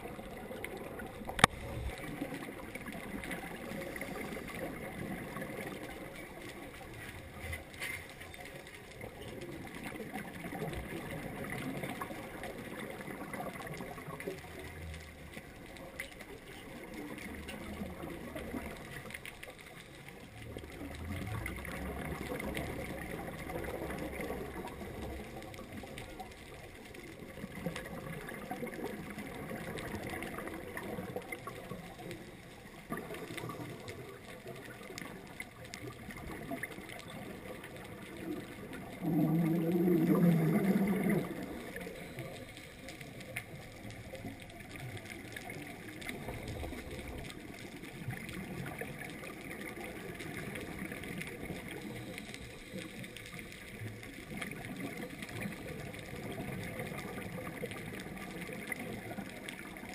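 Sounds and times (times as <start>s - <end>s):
low bubbling: 0.0s - 59.9s
underwater hiss with clicks: 0.1s - 59.9s.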